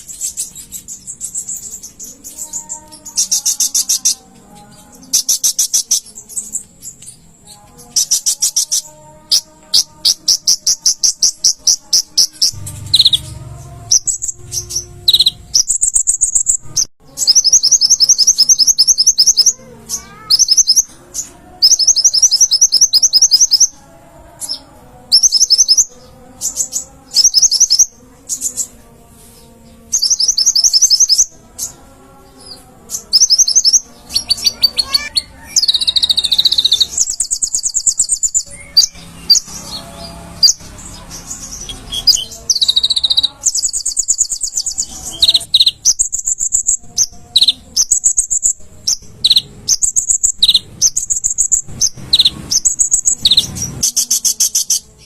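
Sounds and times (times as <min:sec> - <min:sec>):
sunbird singing high trills: 0:00.0 - 0:23.8, 0:29.9 - 0:31.8, 0:32.4 - 0:55.0.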